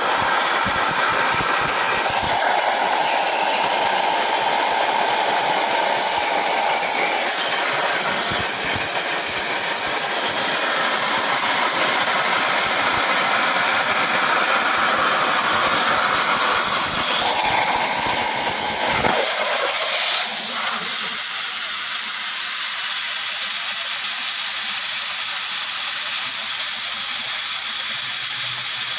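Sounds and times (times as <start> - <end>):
plasma cutter hissing: 0.0 - 28.9
plasma cutter rough roar: 0.0 - 28.9.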